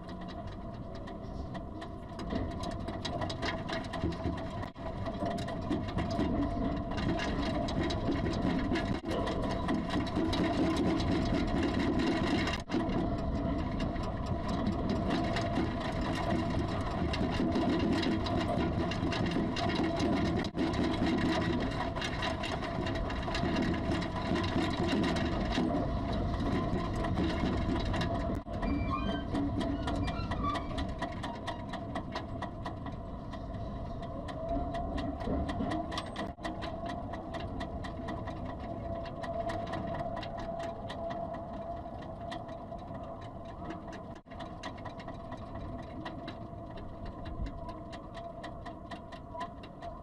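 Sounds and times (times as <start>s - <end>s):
rapid rattling clicking: 0.0s - 50.0s.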